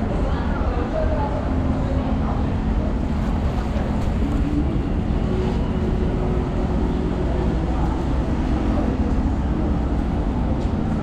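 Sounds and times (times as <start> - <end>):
standing train rumbling and humming: 0.0 - 11.0.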